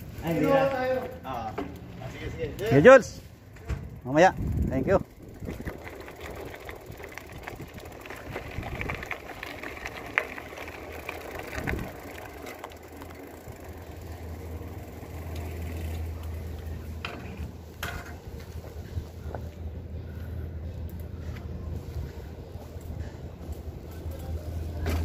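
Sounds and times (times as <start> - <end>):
bicycle rolling over pavement: 0.0 - 25.0
low hum: 3.4 - 25.0.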